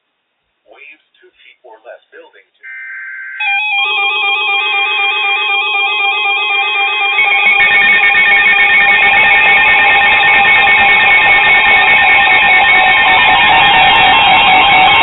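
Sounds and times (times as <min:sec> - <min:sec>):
weather alert radio alarms: 0:02.6 - 0:15.0.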